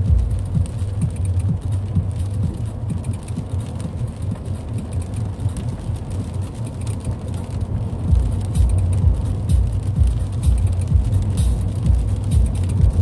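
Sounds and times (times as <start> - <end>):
car engine and tyres rumbling: 0.0 - 13.0
tyres hissing on wet road: 0.0 - 13.0.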